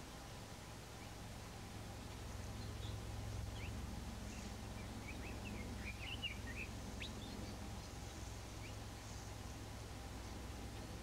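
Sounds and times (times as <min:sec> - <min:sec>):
low background hum: 0:00.0 - 0:11.0
songbird chirping: 0:00.0 - 0:11.0.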